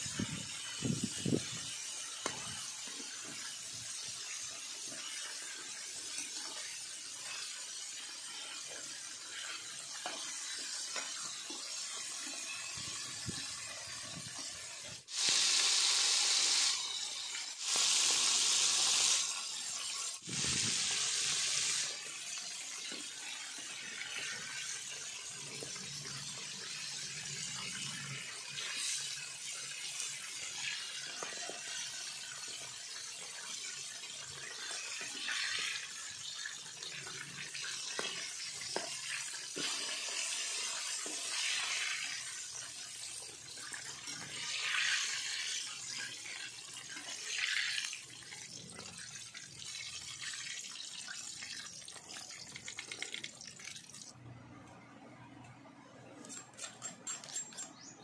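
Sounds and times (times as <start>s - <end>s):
bright sizzling bursts: 0.0s - 53.5s
chicken deep-frying in oil: 0.0s - 54.2s.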